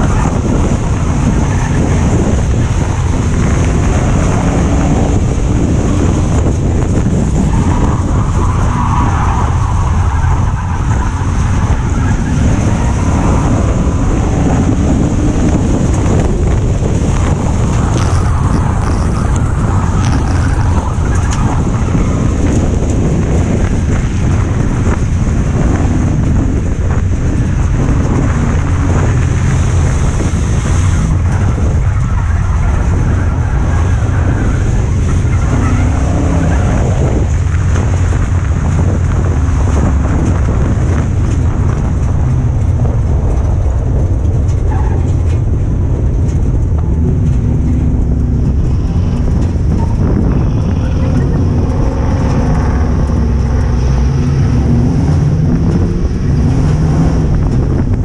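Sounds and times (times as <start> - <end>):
race car engine rumbling: 0.0 - 58.0
wind noise: 0.0 - 58.0.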